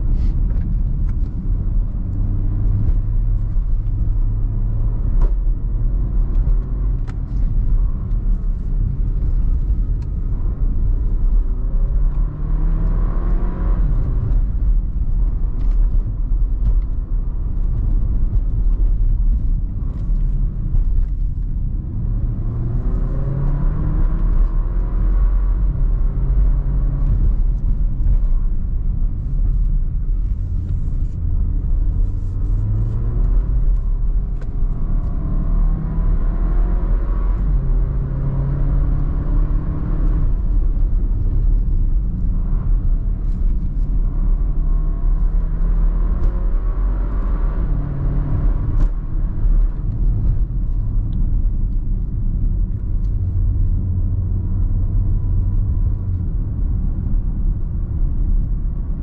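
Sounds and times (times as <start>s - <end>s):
car engine from inside cabin: 0.0s - 59.0s
low road rumble: 0.0s - 59.0s.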